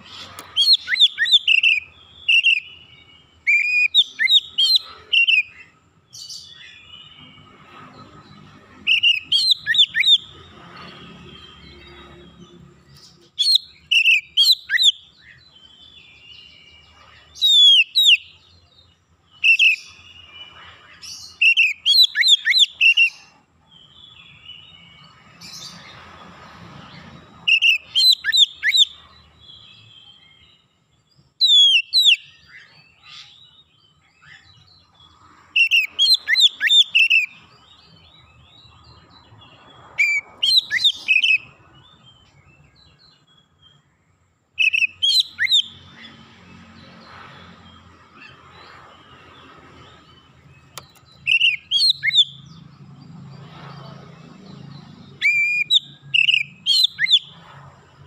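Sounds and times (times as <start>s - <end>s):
bird whistling song: 0.0s - 26.0s, 26.9s - 43.8s, 44.6s - 57.7s.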